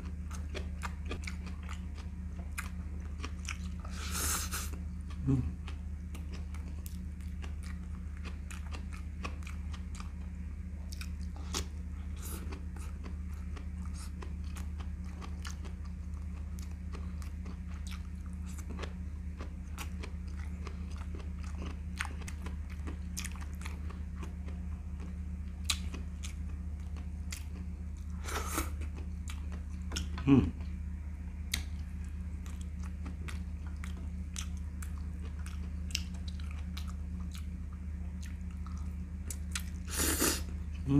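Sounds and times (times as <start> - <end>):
person chewing food: 0.0 - 30.8, 31.5 - 40.9
steady low hum: 0.0 - 40.9.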